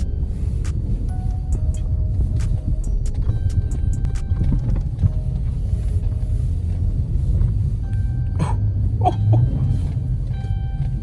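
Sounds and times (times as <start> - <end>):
car driving heard from inside: 0.0 - 11.0.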